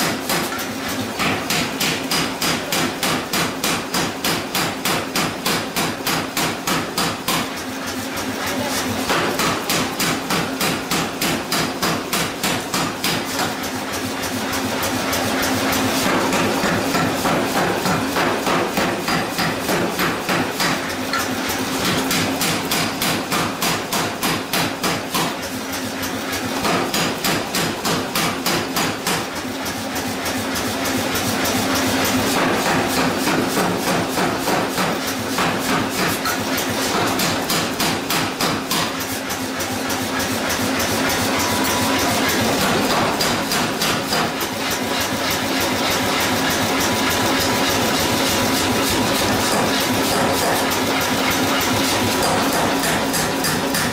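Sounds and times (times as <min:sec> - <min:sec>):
power hammer pounding steel: 0:00.0 - 0:53.9.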